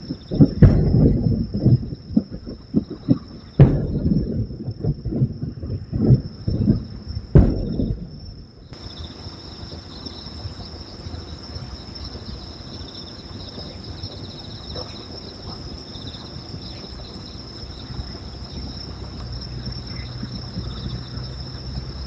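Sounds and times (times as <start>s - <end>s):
crickets chirping: 0.0s - 22.0s
low background rumble: 0.0s - 22.0s.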